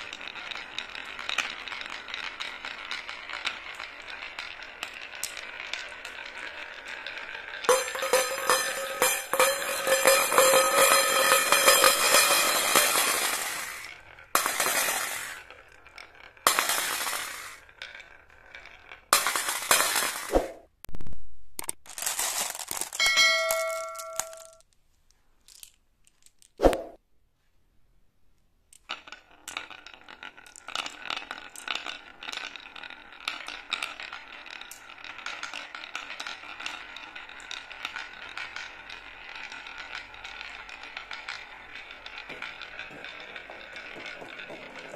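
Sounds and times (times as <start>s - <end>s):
marbles clattering into a metal bowl: 0.0s - 20.4s, 21.6s - 24.6s, 25.4s - 26.6s, 28.7s - 44.9s.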